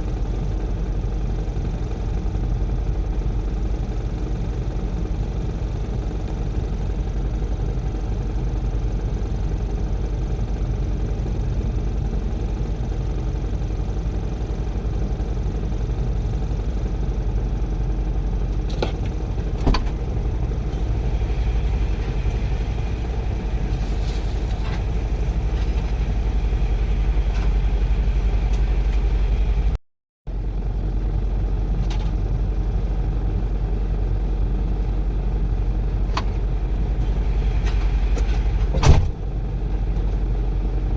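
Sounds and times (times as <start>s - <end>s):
diesel machinery rumbling: 0.0s - 40.9s.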